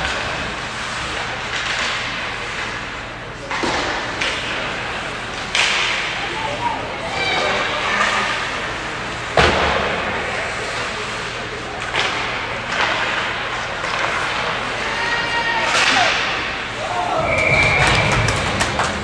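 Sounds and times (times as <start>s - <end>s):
puck or stick crack: 0.0s - 16.8s.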